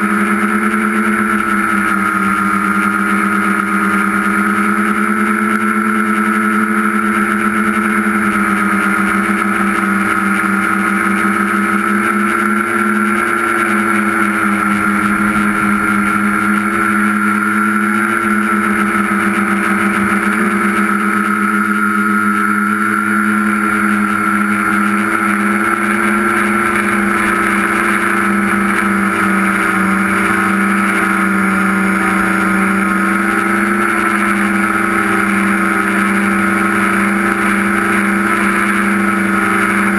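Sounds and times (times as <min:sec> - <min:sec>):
electric motors and propellers buzzing: 0:00.0 - 0:39.9.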